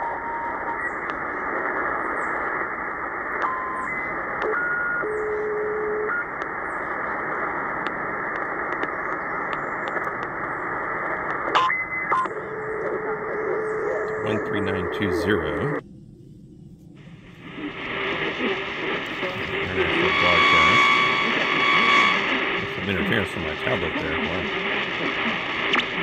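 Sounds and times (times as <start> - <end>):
radio static hiss: 0.0 - 15.8, 17.0 - 26.0.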